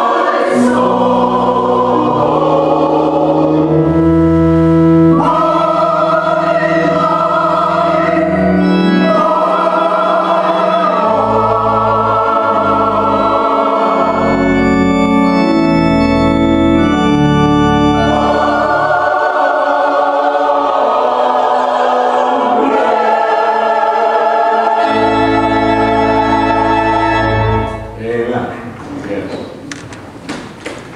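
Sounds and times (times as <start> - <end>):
mixed choir singing: 0.0 - 15.7, 16.6 - 28.0
organ chords: 0.0 - 28.8.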